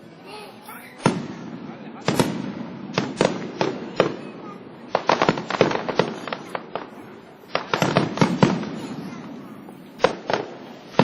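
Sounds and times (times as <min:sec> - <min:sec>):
fireworks bangs: 0:00.9 - 0:11.0.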